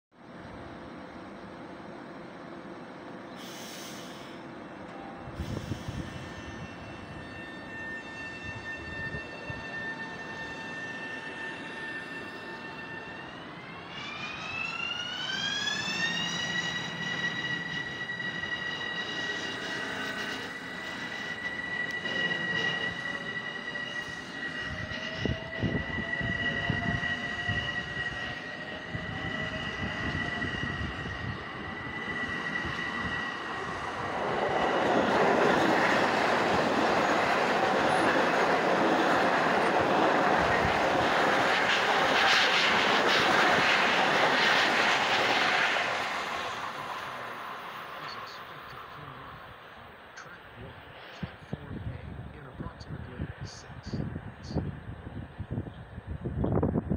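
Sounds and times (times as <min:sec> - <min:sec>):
electric train whine: 0:00.2 - 0:56.9
train cars rushing past: 0:04.3 - 0:52.3
low train motor tone rising: 0:04.5 - 0:52.2.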